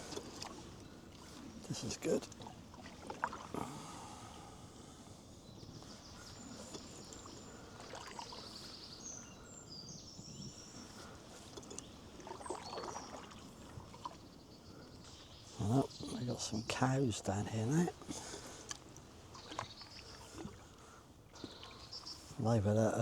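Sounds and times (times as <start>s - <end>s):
canoe paddle splashing water: 0.0s - 22.7s.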